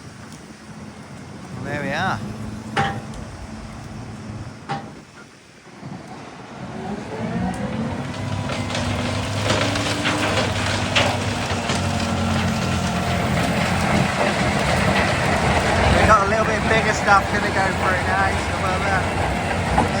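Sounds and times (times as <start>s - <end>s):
wood chipper diesel engine: 0.0s - 20.0s.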